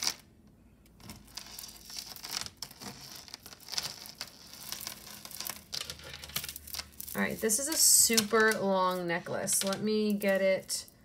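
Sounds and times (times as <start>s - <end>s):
jewelry crinkling and clicking: 0.8s - 11.0s.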